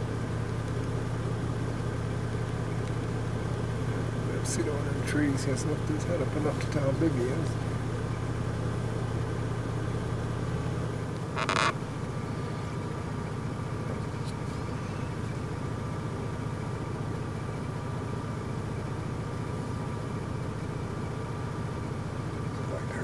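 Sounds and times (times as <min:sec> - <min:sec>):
atv engine idling: 0:00.0 - 0:23.0.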